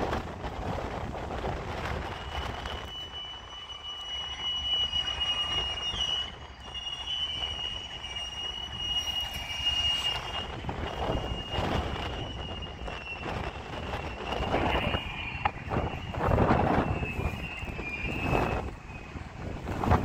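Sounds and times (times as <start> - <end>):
train wheels squealing on rail: 1.2 - 20.0.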